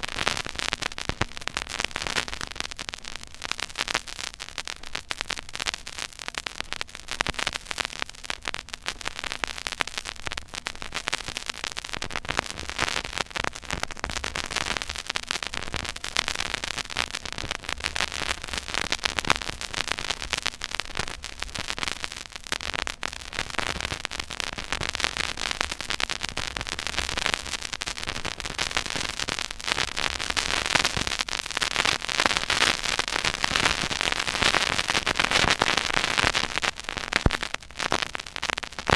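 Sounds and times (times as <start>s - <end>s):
vinyl crackle and pops: 0.0s - 38.9s.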